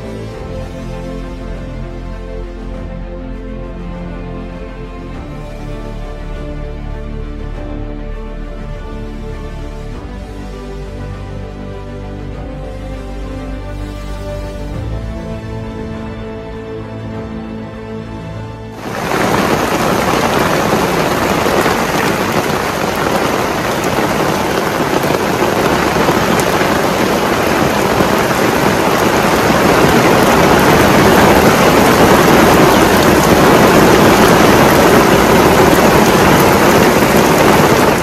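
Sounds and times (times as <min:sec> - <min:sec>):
heavy rain falling: 0:00.0 - 0:10.0, 0:12.0 - 0:38.0.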